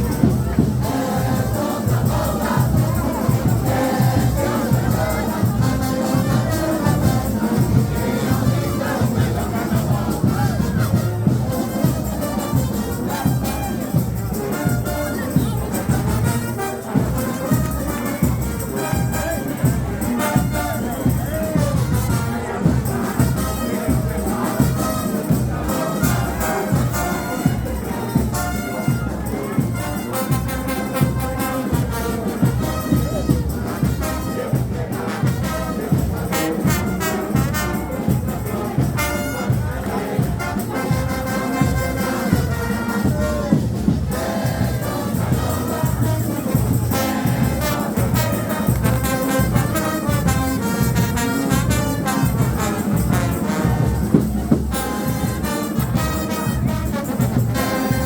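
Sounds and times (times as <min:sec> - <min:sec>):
fast steady drum beat: 0:00.0 - 0:58.0
trumpets and trombones: 0:00.0 - 0:58.0.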